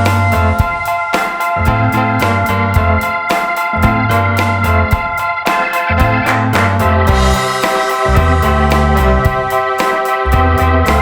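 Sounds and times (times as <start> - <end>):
bouncy keyboard tune: 0.0 - 11.0.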